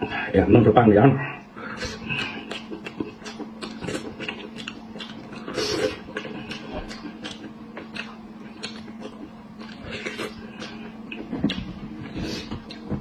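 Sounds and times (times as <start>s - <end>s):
chewing with mouth clicks: 1.9s - 13.0s.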